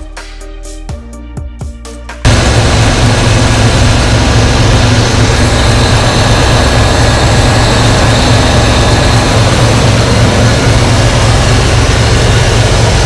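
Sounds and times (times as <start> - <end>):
engine idling low hum: 2.3 - 13.0.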